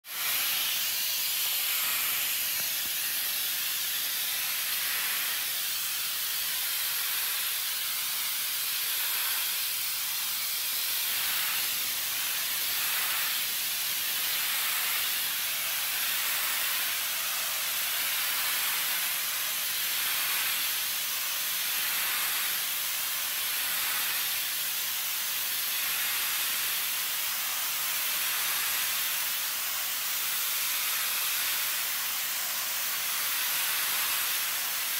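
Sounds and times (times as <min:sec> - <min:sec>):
pressure washer spray hissing: 0:00.0 - 0:34.9.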